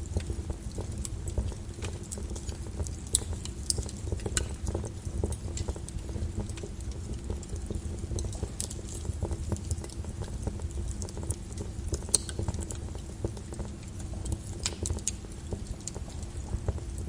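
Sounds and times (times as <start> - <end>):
fire crackling and snapping: 0.0 - 17.0
fire flames rumbling: 0.0 - 17.0.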